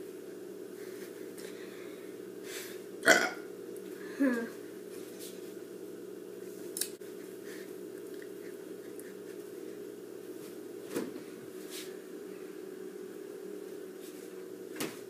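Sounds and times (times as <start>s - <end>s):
refrigerator low hum: 0.0s - 15.0s.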